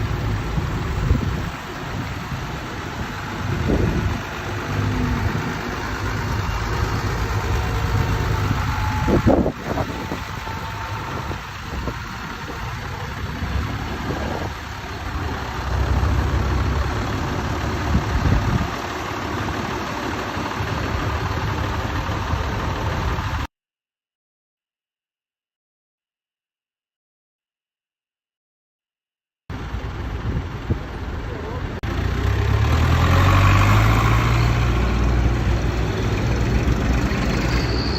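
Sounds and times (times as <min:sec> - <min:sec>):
old tractor engines rumbling: 0:00.0 - 0:23.5, 0:29.5 - 0:37.9.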